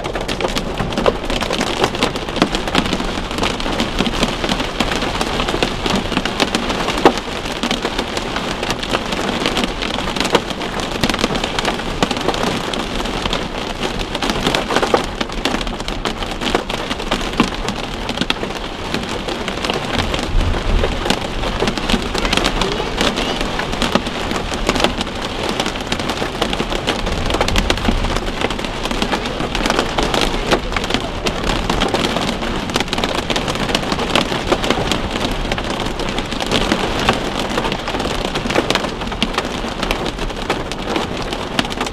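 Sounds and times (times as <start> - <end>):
heavy rain on car roof: 0.0 - 41.9.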